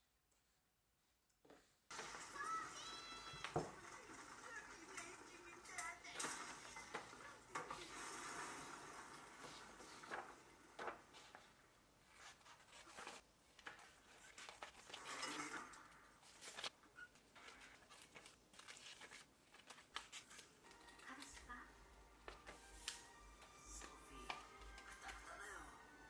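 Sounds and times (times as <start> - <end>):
paper rustling: 1.9 - 25.6.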